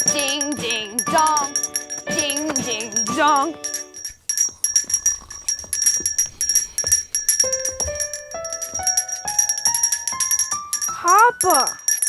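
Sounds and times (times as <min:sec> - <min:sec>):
handbell rung rapidly: 0:00.0 - 0:12.0.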